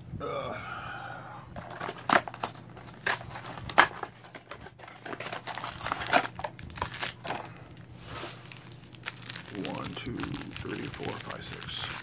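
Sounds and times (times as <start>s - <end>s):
foil wrapper crinkling and tearing: 1.6s - 12.0s.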